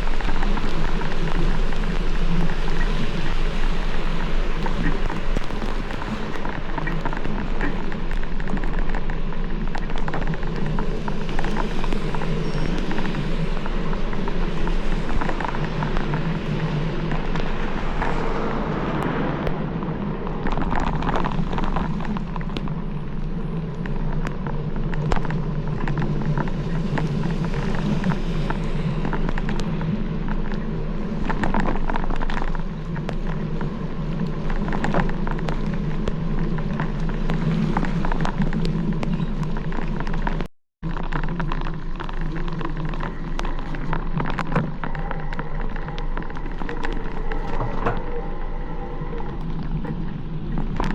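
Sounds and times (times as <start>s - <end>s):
constant low hum: 0.0s - 50.9s
road rumble: 0.0s - 50.9s
rushing wind: 0.0s - 50.9s.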